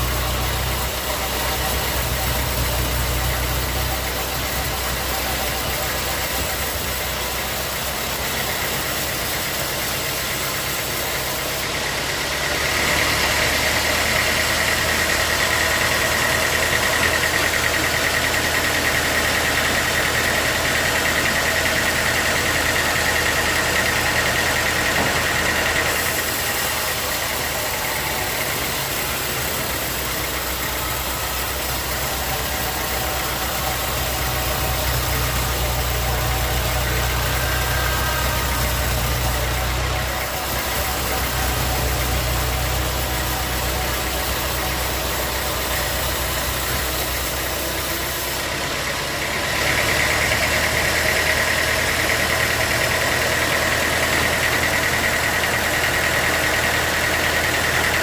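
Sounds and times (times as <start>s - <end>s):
high steady whine: 0.0s - 58.0s
sawmill machinery running: 0.0s - 58.0s.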